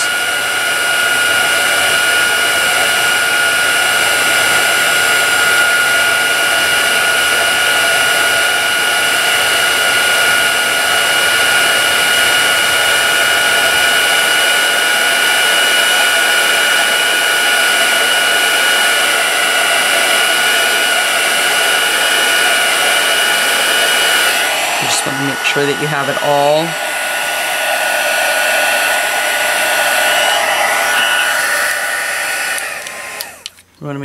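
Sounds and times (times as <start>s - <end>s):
heat tool fan whining: 0.0s - 34.0s.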